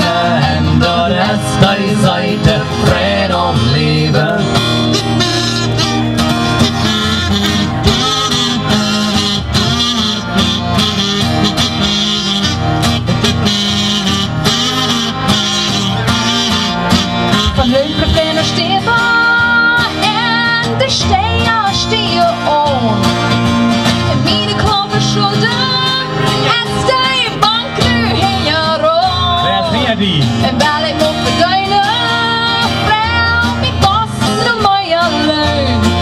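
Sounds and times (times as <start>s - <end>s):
acoustic guitars strumming: 0.0s - 36.0s
harmonica playing: 0.0s - 36.0s.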